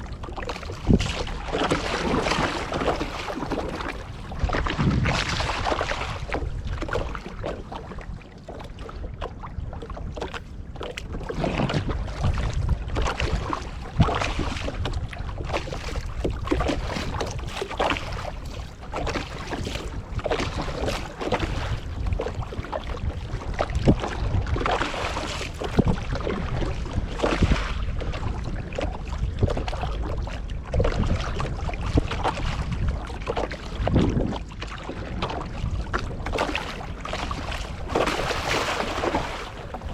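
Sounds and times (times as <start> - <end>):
water splashing against canoe: 0.0 - 39.9
wind buffeting microphone: 0.0 - 39.9.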